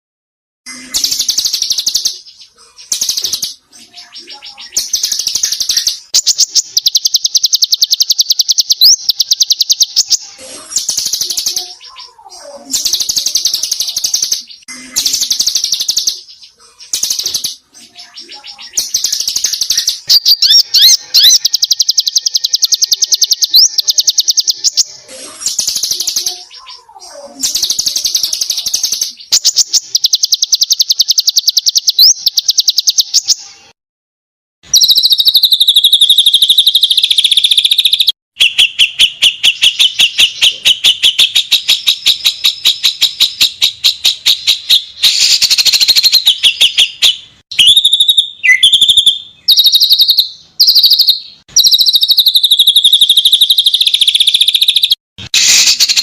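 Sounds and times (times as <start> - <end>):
songbird singing rolling trills: 0.7 - 33.6, 34.8 - 55.0.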